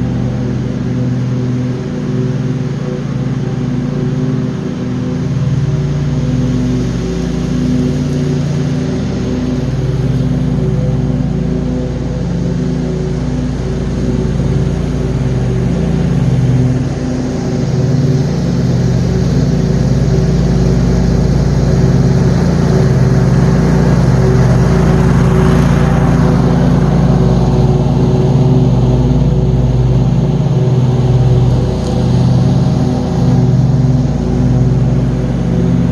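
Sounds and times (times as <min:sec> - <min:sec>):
mower blade and deck noise: 0:00.0 - 0:35.9
mower engine running: 0:00.0 - 0:35.9.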